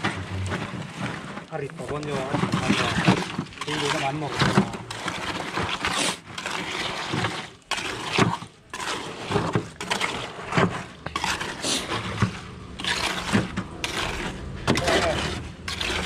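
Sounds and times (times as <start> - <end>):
trowel scraping wet concrete: 0.0 - 16.0.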